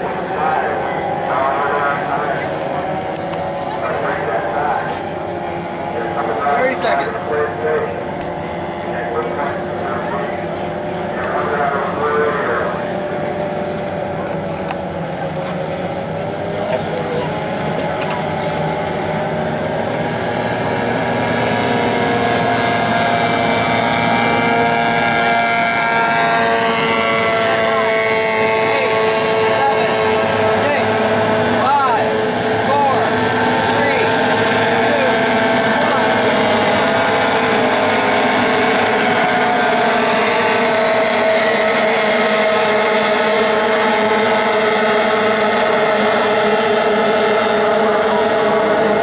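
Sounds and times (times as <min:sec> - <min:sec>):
racing boat engines whining: 0:00.0 - 0:49.0.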